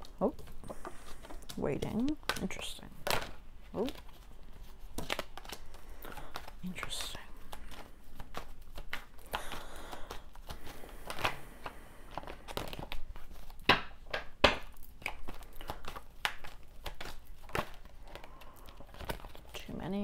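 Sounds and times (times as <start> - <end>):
cards being shuffled: 0.0 - 20.0.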